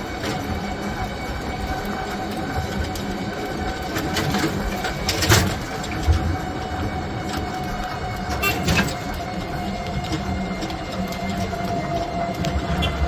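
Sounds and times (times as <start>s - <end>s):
steady mechanical rumble: 0.0s - 13.0s.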